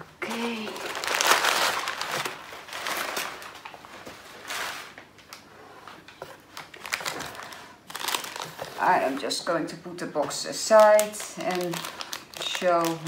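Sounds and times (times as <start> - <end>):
packing paper rustling: 0.2 - 9.4, 10.2 - 13.0.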